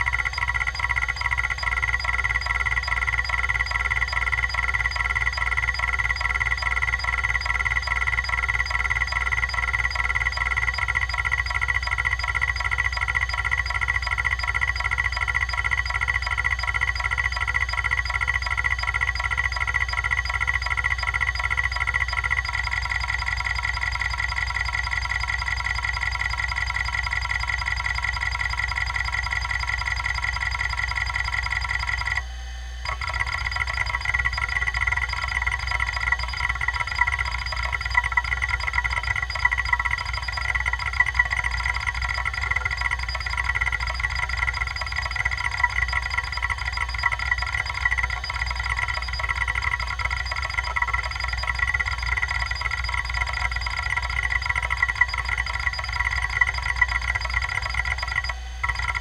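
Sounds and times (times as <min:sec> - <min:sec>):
hard drive heads chattering: 0:00.0 - 0:32.2, 0:32.9 - 0:59.0
hard drive whine: 0:00.0 - 0:59.0
sharp hard drive clicks: 0:00.0 - 0:59.0.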